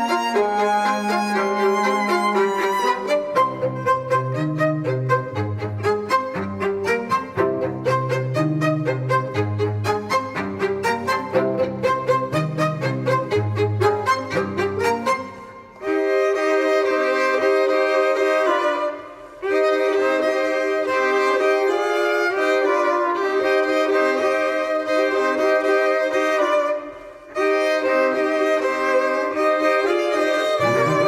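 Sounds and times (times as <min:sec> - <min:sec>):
bowed violin long notes: 0:00.0 - 0:31.0.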